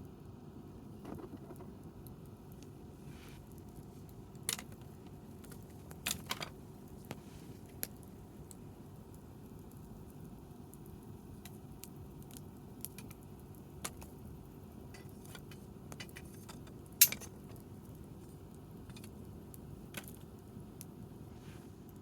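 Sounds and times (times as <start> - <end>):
campfire crackling: 0.9 - 22.0.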